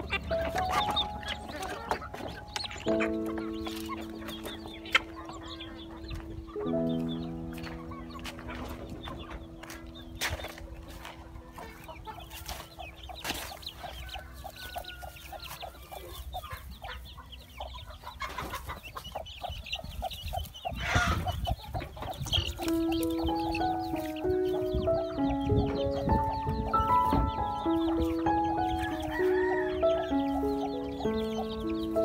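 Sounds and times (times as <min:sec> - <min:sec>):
music: 0:00.0 - 0:16.0, 0:22.2 - 0:32.0
chicks peeping: 0:00.0 - 0:32.0
hen clucking: 0:00.0 - 0:32.0.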